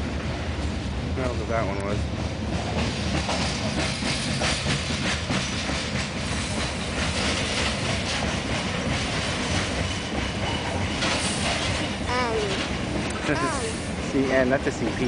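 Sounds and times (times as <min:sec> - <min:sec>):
freight train rumbling: 0:00.0 - 0:15.0
train wheels clacking: 0:00.6 - 0:15.0.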